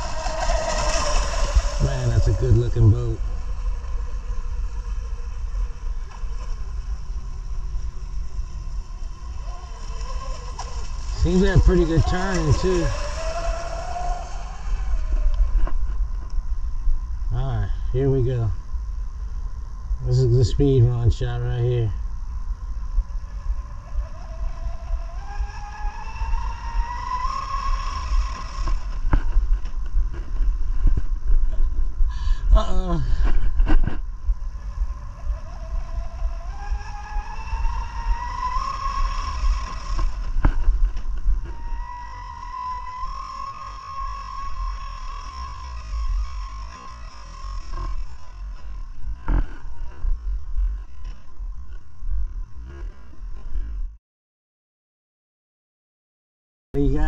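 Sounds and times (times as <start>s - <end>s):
faint electric motor whine: 0.0s - 54.0s
loud steady low rumble: 0.0s - 54.0s.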